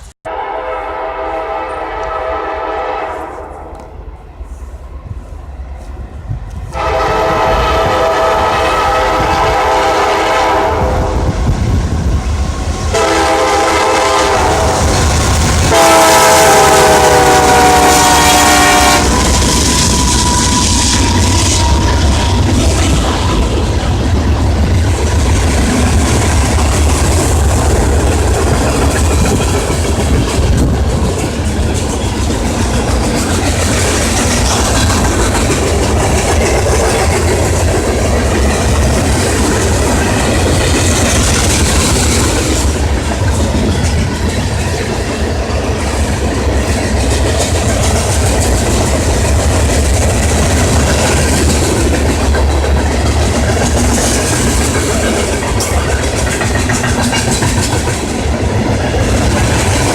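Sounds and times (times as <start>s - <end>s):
train engine drone: 0.0s - 59.9s
wheel and rail noise: 3.4s - 59.9s.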